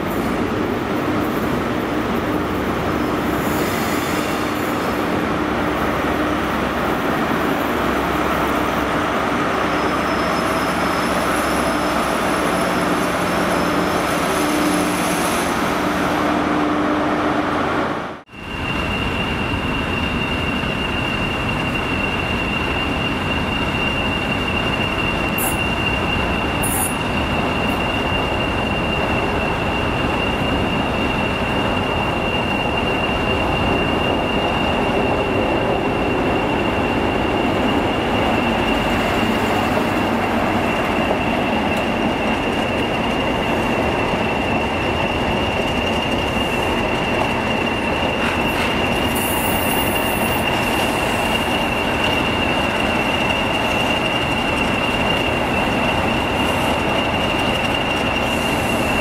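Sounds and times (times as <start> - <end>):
train wheel squeal: 0.0 - 16.5, 18.3 - 59.0
train rumbling past: 0.0 - 59.0.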